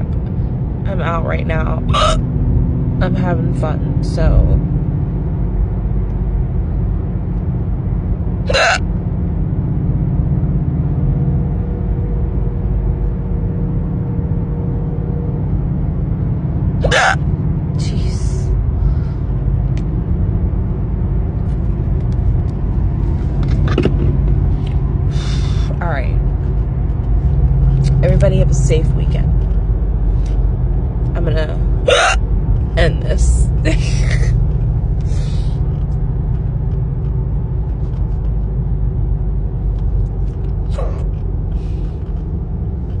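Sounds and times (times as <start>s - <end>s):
car interior road rumble: 0.0s - 43.0s.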